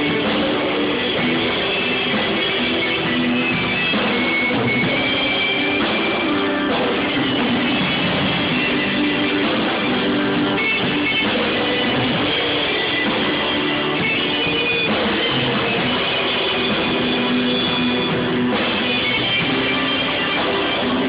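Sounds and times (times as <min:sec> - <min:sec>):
drum kit: 0:00.0 - 0:21.0
electric guitars: 0:00.0 - 0:21.0.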